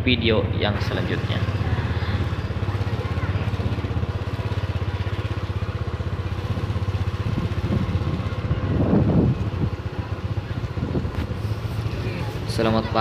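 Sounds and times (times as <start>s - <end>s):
small engine running: 0.5s - 13.0s.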